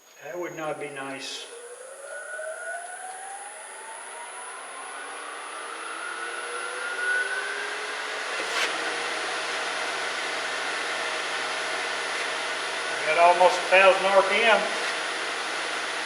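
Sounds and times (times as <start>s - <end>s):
steady running hiss: 0.0s - 16.0s
wood lathe motor whine: 1.3s - 16.0s.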